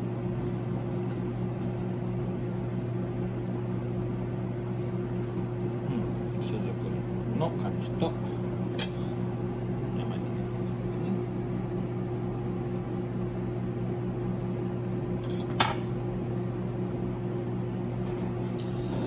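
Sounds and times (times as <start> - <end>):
kitchen equipment hum: 0.0 - 19.0.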